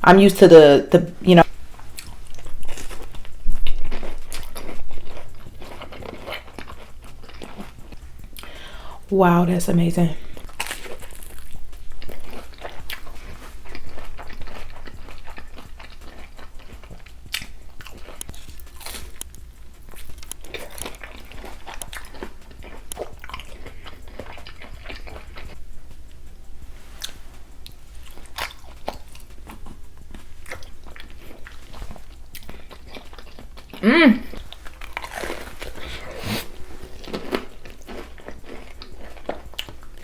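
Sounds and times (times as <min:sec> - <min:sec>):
low steady hum: 0:00.0 - 0:40.0
wet biting and chewing: 0:01.4 - 0:09.1, 0:10.2 - 0:40.0.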